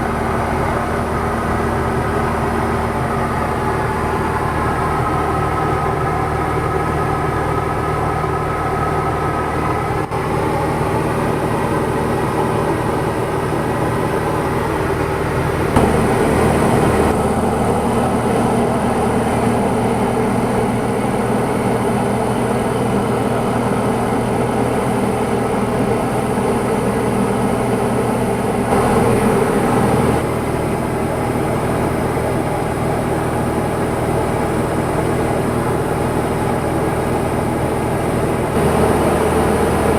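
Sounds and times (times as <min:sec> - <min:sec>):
propeller aircraft engine droning: 0:00.0 - 0:39.9.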